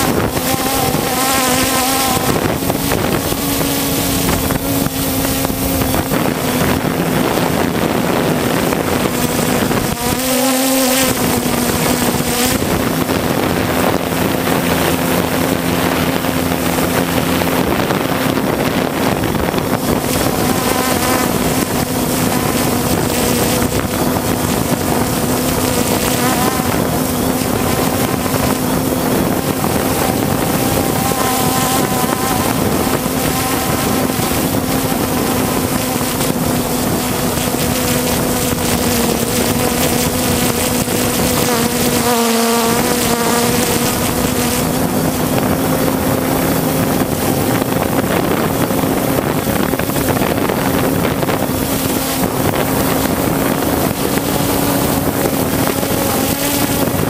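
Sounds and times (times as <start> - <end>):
drone propellers buzzing: 0.0 - 57.0
wind rushing over microphone: 0.0 - 57.0.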